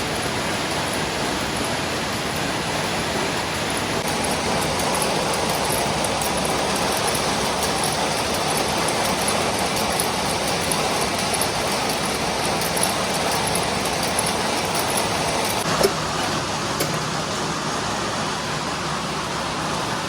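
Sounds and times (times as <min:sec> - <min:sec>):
mechanical rumble and hiss: 0:00.0 - 0:20.0.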